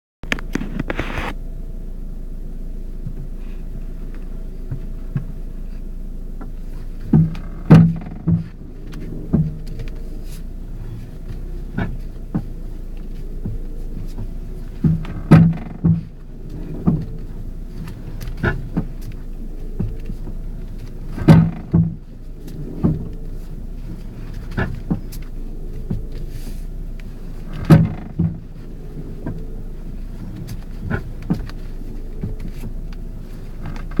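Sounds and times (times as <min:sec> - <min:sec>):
car engine running: 0:00.2 - 0:34.0
suspension clunks: 0:00.2 - 0:34.0.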